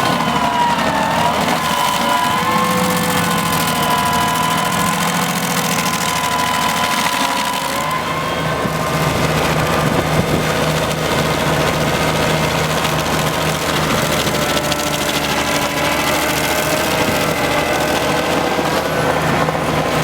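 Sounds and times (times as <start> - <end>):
stump grinder engine running: 0.0 - 20.0.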